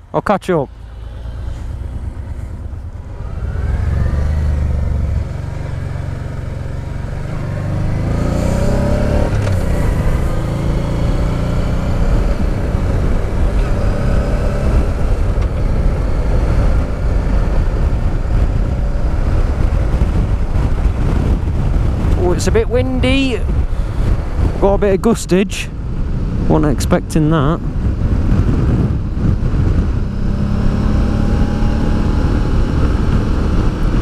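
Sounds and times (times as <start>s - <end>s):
motorcycle engine accelerating: 0.7s - 34.0s.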